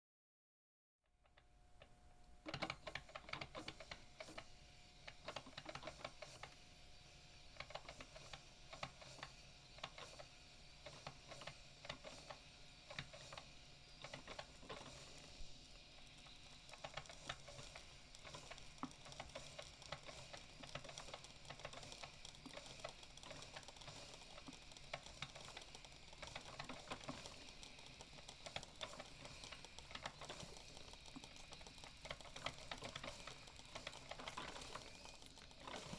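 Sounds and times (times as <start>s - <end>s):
coffee machine running: 2.5s - 35.9s.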